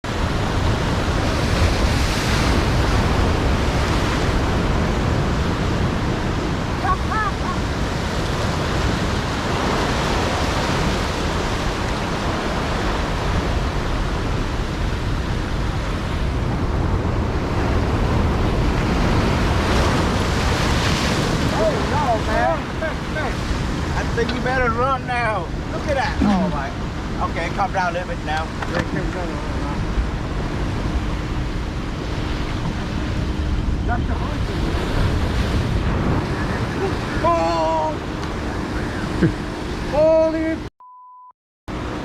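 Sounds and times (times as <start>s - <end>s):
wind buffeting microphone: 0.0s - 40.6s
surf breaking and washing: 0.0s - 40.7s.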